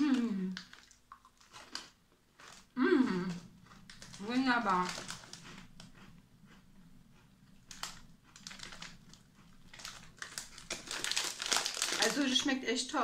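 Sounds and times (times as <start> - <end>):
plastic bag crinkling: 0.0 - 5.8, 7.6 - 12.6
biscuit crunching: 0.0 - 12.4.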